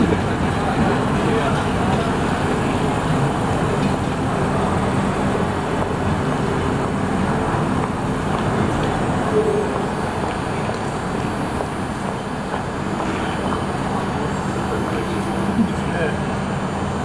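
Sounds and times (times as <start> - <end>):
city traffic hum: 0.0 - 17.0
streetcar running on tracks: 0.0 - 17.0.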